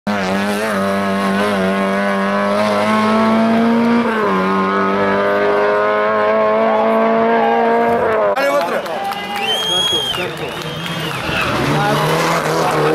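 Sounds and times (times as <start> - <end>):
rally car engine at high revs: 0.1 - 8.4, 10.6 - 12.9.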